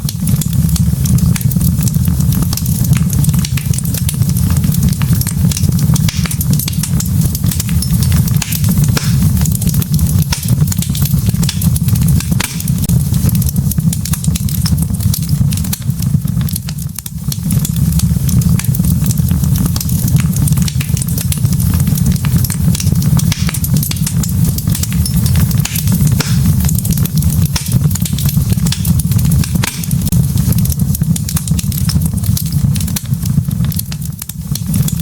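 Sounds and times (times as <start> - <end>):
logs crackling and popping: 0.0 - 35.0
low rumble of flames: 0.0 - 35.0.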